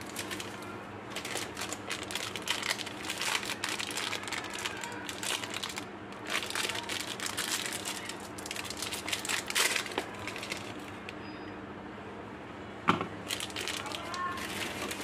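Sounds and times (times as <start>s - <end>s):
candy balls crunching between fingers: 0.0s - 11.1s, 13.3s - 15.0s.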